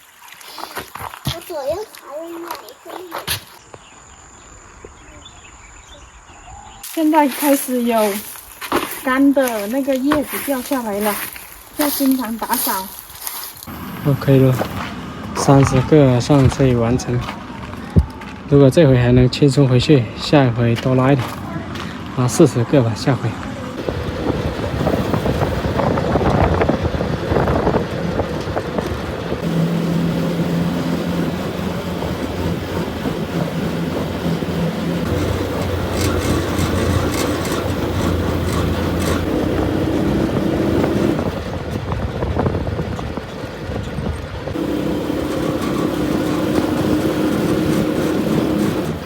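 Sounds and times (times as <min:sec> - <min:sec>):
small vehicle engine driving: 0:07.1 - 0:49.0.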